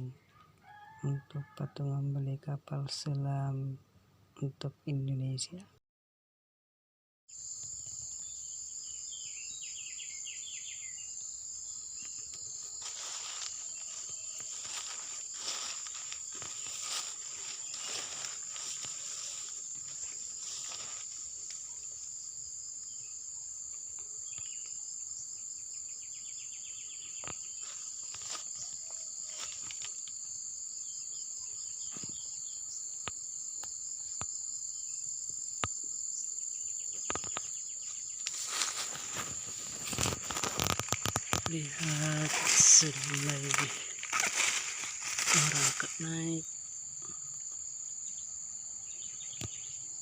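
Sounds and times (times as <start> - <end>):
high-pitched insect chorus: 7.3 - 50.0.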